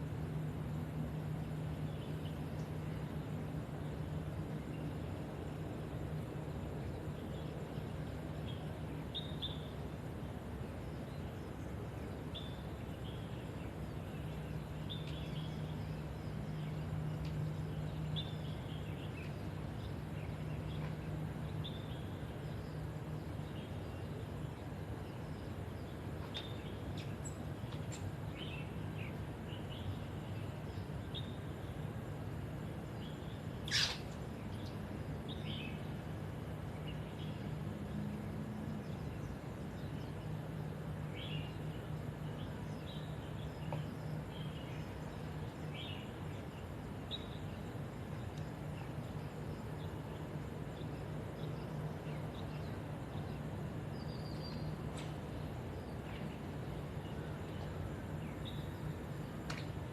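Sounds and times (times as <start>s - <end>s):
small birds chirping: 0.1s - 59.9s.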